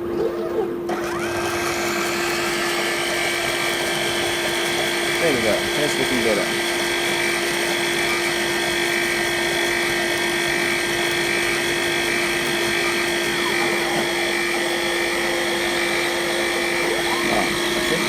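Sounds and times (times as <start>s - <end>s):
mill spindle whine: 0.8s - 18.0s.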